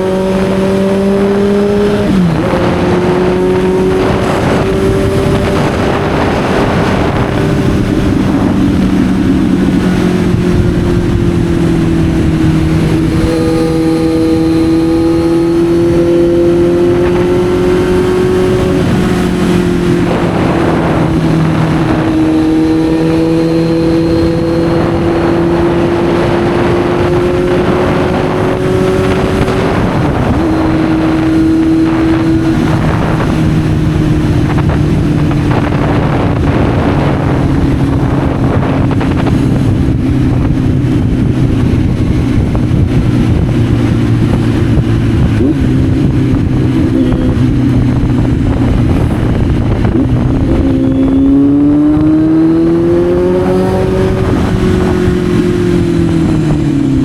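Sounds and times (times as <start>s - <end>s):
motorcycle engine cruising and revving: 0.0s - 57.0s
wind noise: 0.0s - 57.0s.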